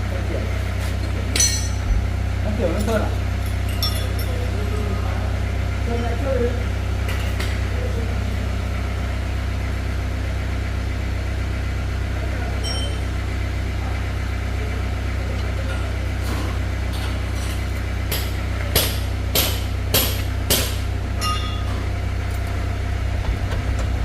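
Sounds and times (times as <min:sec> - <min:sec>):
motor humming steadily: 0:00.0 - 0:24.0.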